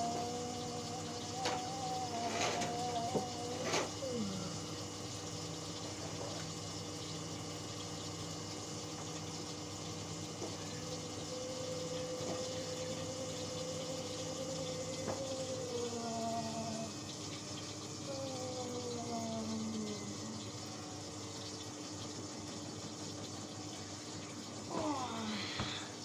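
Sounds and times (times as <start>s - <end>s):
pump hum: 0.0s - 26.0s
water flowing in washing machine: 0.0s - 26.0s.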